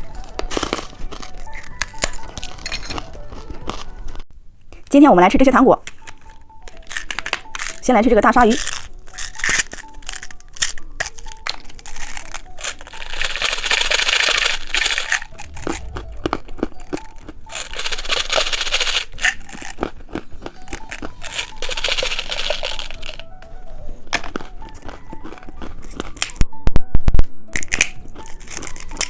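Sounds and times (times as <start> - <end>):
plastic wrapper crinkling: 0.0 - 4.2, 5.8 - 26.4, 27.6 - 29.0.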